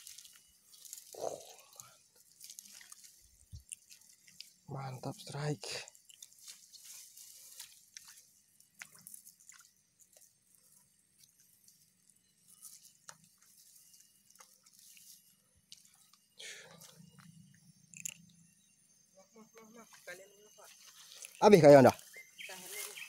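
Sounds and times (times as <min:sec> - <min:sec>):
dry grass crackling: 0:00.0 - 0:05.0, 0:05.9 - 0:17.2, 0:19.9 - 0:23.0.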